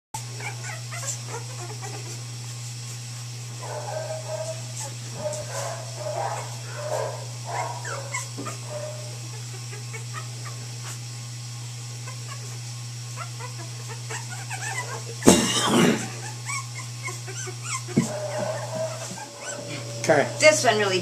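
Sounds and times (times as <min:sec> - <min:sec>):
puppies whimpering and squeaking: 0:00.2 - 0:02.6, 0:03.6 - 0:11.1, 0:11.9 - 0:21.0
steady low hum: 0:00.2 - 0:21.0.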